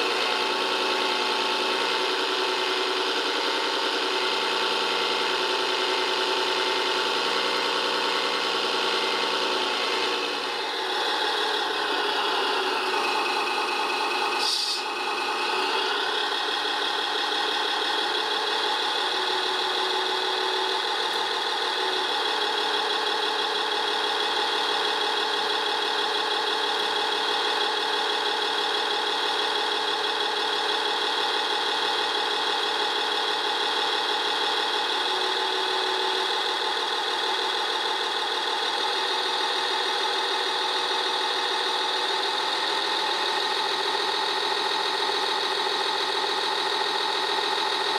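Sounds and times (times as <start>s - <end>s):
simulated diesel engine idling: 0.0s - 47.9s.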